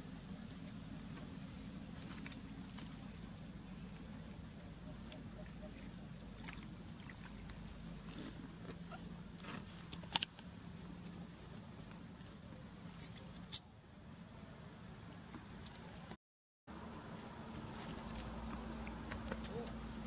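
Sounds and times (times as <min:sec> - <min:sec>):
thin high-pitched hum: 0:00.0 - 0:20.0.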